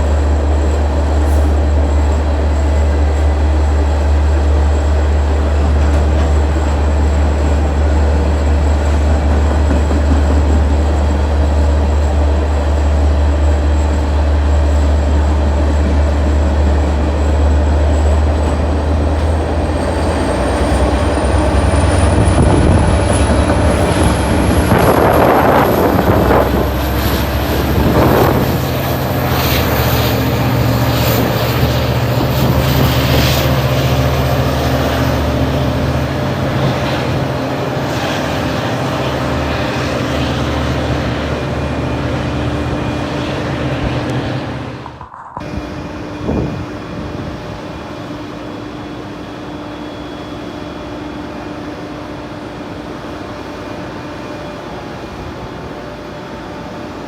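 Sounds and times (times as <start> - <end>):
high train whine: 0.0 - 57.0
train rumbling: 0.0 - 57.0.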